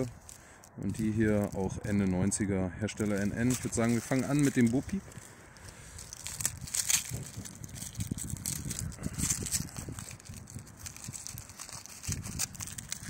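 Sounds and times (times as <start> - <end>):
paper wrapping tearing and crinkling: 0.0 - 2.3, 2.9 - 13.0.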